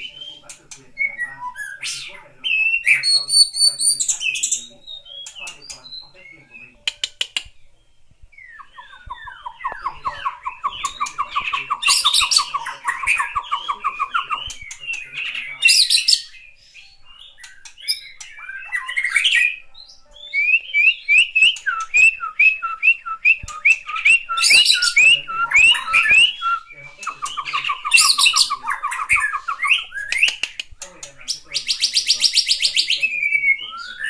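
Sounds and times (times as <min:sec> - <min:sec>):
bird squawking: 0:00.0 - 0:07.6, 0:08.4 - 0:34.0
bird chirping: 0:00.0 - 0:34.0.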